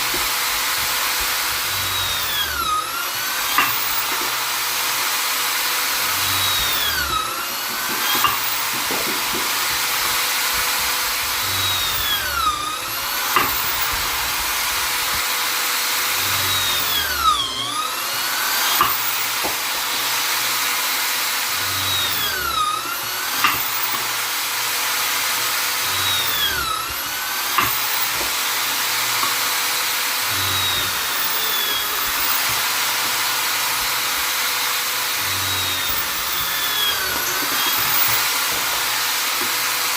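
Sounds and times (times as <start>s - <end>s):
electric drill running: 0.0s - 39.9s.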